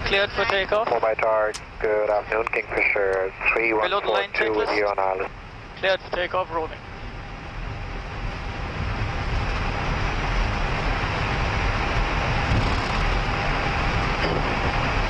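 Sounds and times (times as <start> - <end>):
faint steady whine: 0.0 - 15.0
jet engine and rolling noise: 0.0 - 15.0.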